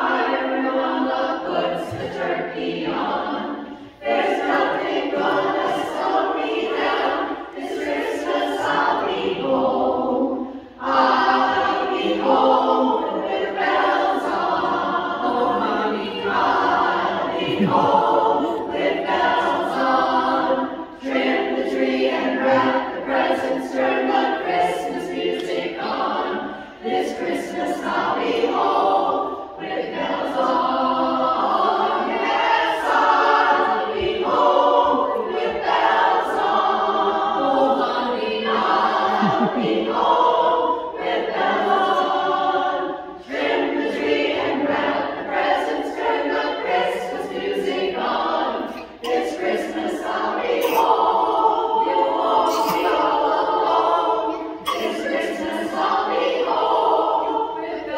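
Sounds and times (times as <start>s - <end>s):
women's chorus singing in harmony: 0.0s - 57.9s.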